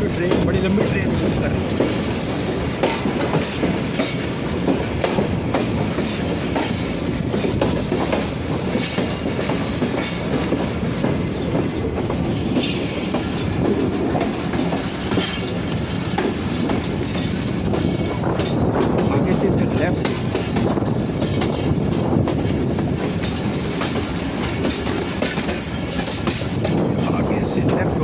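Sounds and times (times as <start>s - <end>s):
steel wheels clacking over rail joints: 0.0s - 28.0s
train rumbling: 0.0s - 28.0s.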